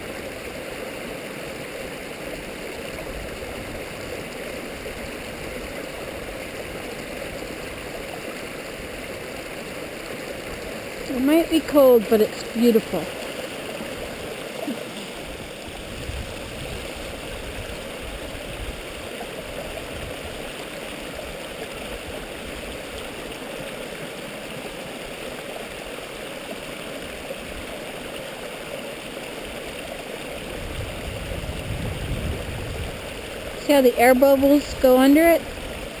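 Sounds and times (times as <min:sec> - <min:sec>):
stream running over rocks: 0:00.0 - 0:36.0.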